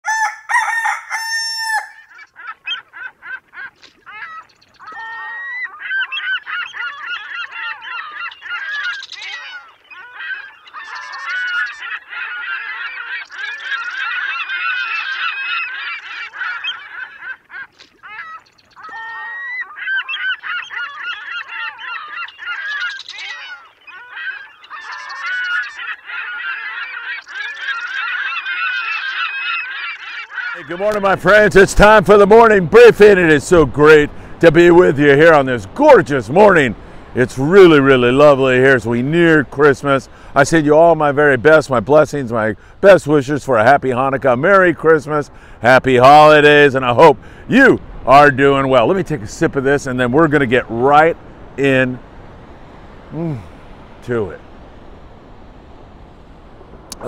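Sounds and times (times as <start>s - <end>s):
flock of birds calling: 0.0s - 54.8s.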